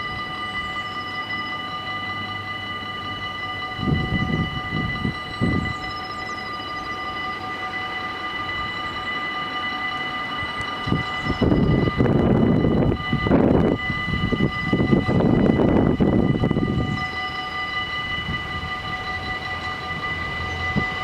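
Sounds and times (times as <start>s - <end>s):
level-crossing warning bells: 0.0s - 21.0s
train rumbling past: 0.0s - 21.0s.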